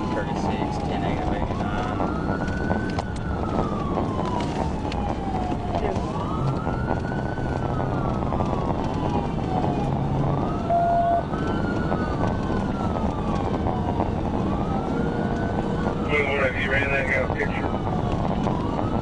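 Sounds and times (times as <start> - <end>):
car engine rumble: 0.0 - 19.0
police sirens wailing: 0.0 - 19.0
tyres on road: 0.0 - 19.0.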